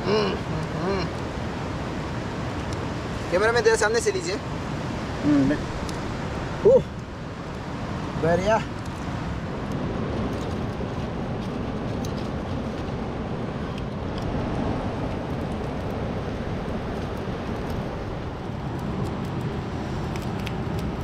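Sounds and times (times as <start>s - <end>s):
fast river rushing: 0.0s - 21.0s
open fire crackling: 0.0s - 21.0s.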